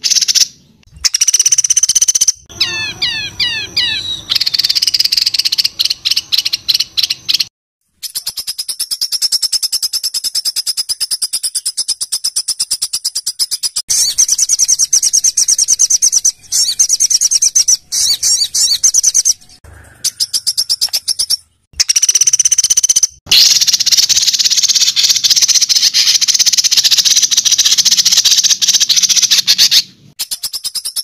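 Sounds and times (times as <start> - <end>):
songbird harsh rapid notes: 0.0 - 10.2, 13.5 - 31.0.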